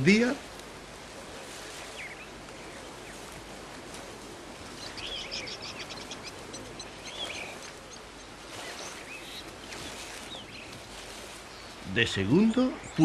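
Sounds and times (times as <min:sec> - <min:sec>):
small birds chirping: 0:00.0 - 0:13.0
steady outdoor hiss: 0:00.0 - 0:13.0.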